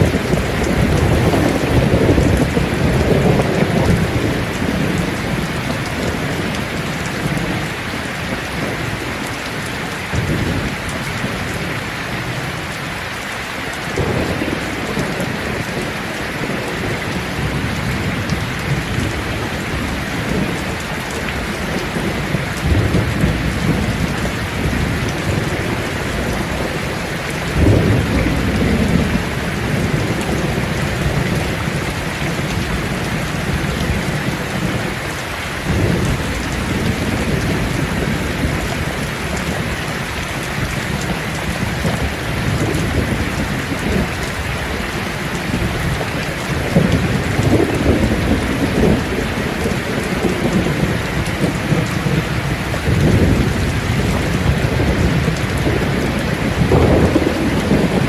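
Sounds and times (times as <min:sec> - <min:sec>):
thunder rumbling: 0:00.0 - 0:13.0, 0:13.7 - 0:58.0
rain falling on leaves: 0:00.0 - 0:58.0.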